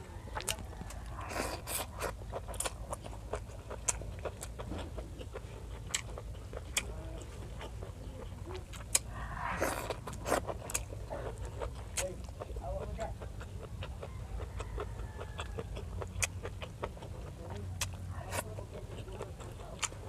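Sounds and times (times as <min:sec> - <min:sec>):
chewing and crunching: 0:00.0 - 0:20.0.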